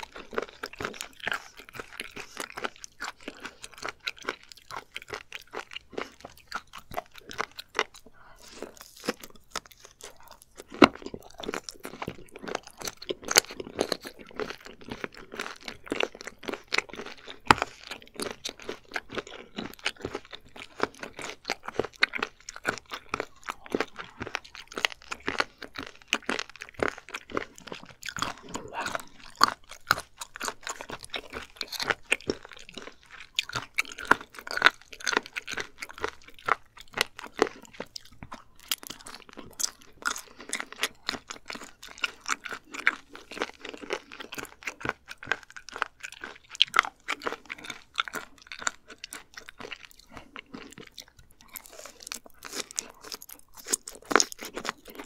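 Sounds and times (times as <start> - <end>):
person chewing crunchily: 0.0 - 55.0.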